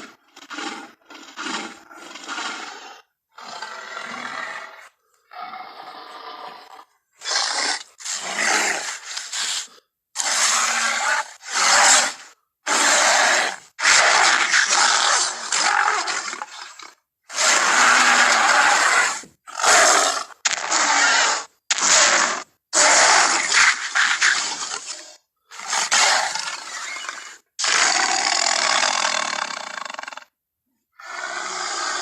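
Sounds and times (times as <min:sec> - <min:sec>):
monster roars and snarls: 0:00.0 - 0:30.3.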